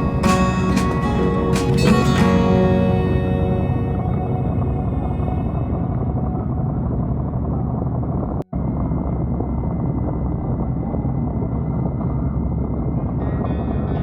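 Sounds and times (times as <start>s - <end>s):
motorcycle engine rumble: 0.0s - 13.7s.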